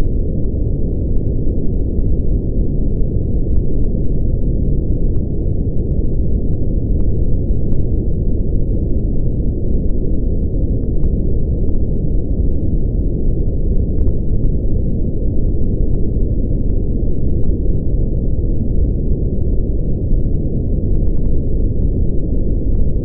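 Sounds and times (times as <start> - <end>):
brown noise rumble: 0.0 - 23.0.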